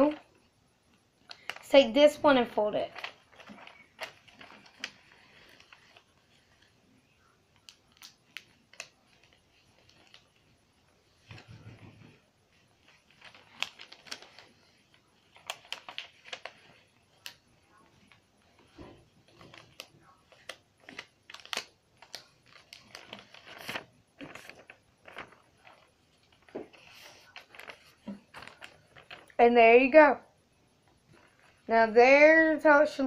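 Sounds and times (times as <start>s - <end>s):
paper folding and crinkling: 1.2s - 29.4s, 31.1s - 31.8s.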